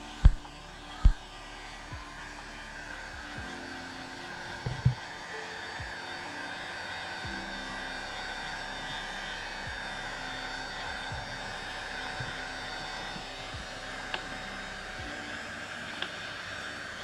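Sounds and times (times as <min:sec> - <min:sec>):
hot-air blower running: 0:00.0 - 0:17.0.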